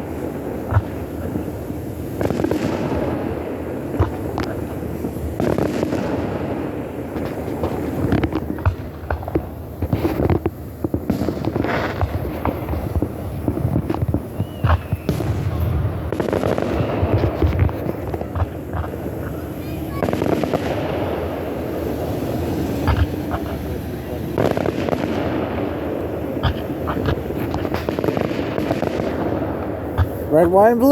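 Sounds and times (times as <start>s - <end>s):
fireworks booming: 0.0s - 30.9s
fireworks crackling: 0.0s - 30.9s.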